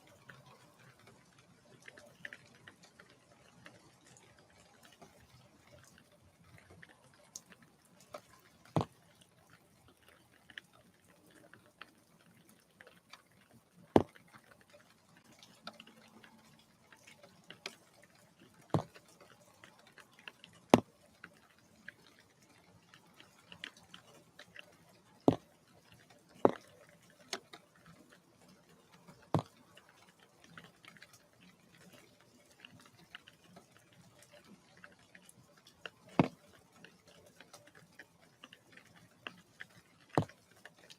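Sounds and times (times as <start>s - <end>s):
raindrops tapping on feeder: 0.0s - 40.9s.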